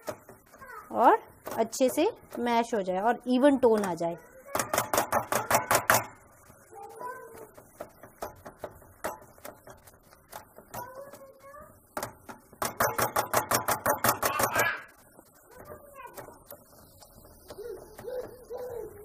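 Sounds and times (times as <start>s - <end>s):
metal masher tapping a pan: 0.0s - 6.2s, 7.4s - 19.0s.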